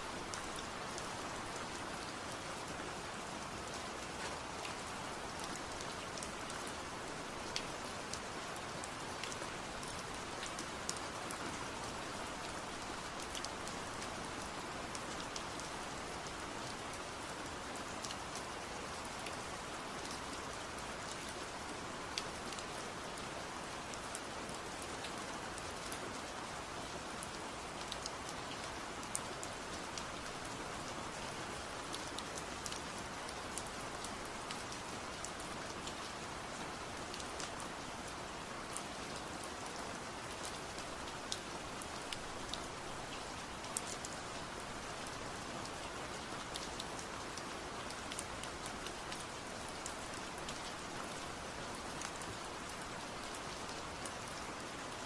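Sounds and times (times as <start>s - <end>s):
steady rainfall hiss: 0.0s - 55.0s
raindrops ticking on a surface: 0.1s - 55.0s.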